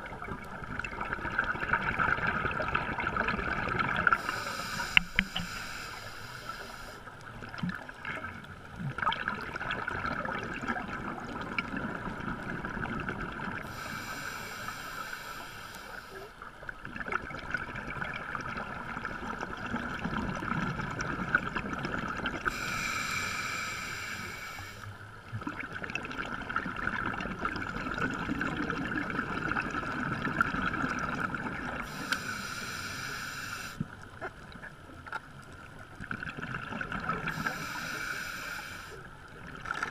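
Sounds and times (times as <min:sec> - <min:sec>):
steady underwater hiss: 0:00.0 - 0:11.4, 0:12.1 - 0:17.0, 0:20.9 - 0:25.8, 0:26.6 - 0:39.9.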